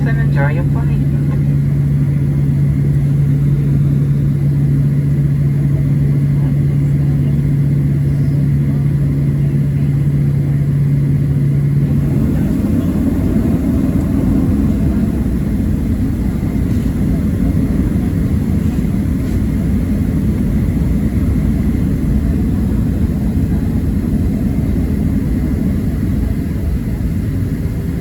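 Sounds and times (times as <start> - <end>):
aircraft cabin rumble: 0.0 - 28.0
constant low hum: 0.0 - 28.0.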